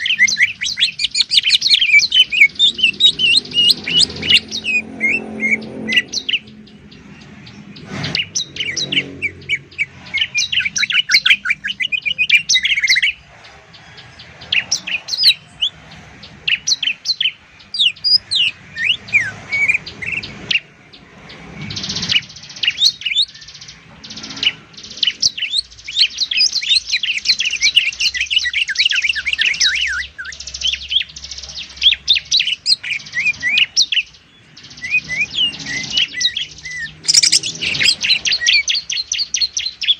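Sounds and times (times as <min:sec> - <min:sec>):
caged songbirds singing: 0:00.0 - 0:39.9.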